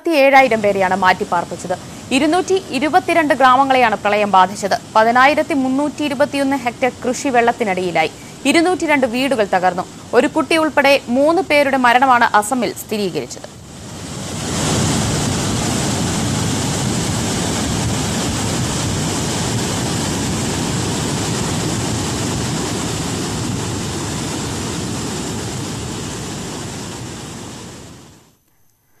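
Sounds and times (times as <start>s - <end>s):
river floodwater rushing: 0.5s - 11.4s, 13.6s - 27.4s.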